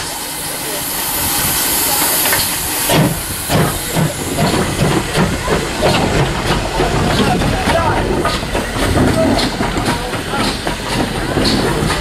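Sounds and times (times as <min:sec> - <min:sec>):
steam hissing: 0:00.0 - 0:12.0
steam locomotive exhaust chuffs: 0:00.0 - 0:12.0.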